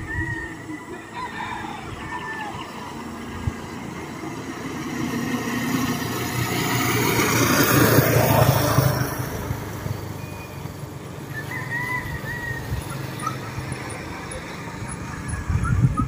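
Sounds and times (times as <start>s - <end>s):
motorcycle passing by: 0.0s - 16.0s.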